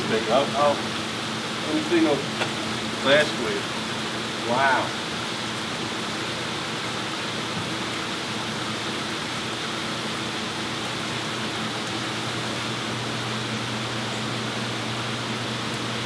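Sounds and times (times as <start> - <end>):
low pump hum: 0.0 - 16.0
water rushing through tanks: 0.0 - 16.0.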